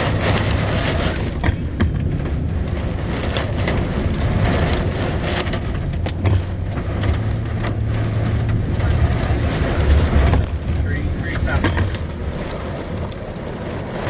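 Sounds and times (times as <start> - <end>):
car driving hum: 0.0 - 14.0
heavy rain drumming on car: 0.0 - 14.0.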